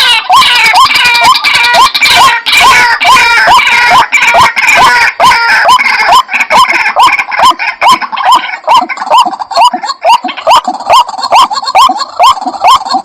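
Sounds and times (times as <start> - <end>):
waterhens calling: 0.0 - 13.0.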